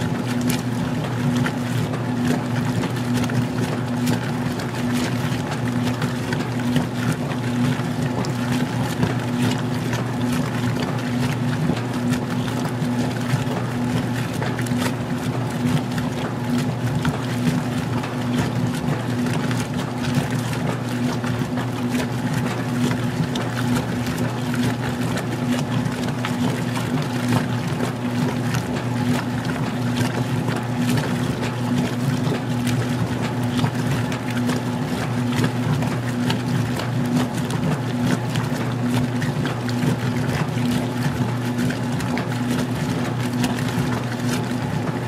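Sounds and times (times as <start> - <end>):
washer motor hum: 0.0 - 45.0
water sloshing in tub: 0.0 - 45.0.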